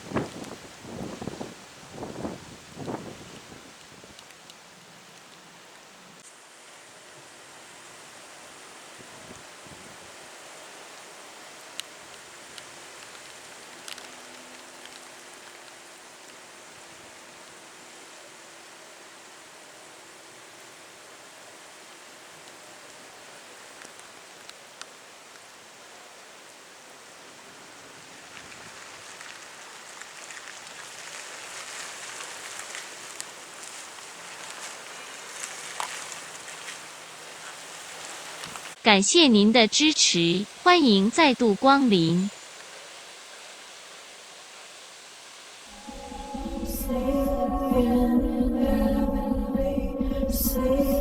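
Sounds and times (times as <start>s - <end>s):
heavy rain hiss: 0.0s - 38.8s, 41.9s - 47.4s.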